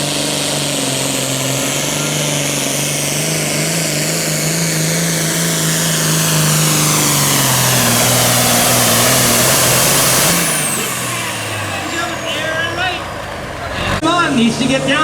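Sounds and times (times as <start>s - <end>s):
tractor engine at full throttle: 0.0s - 15.0s.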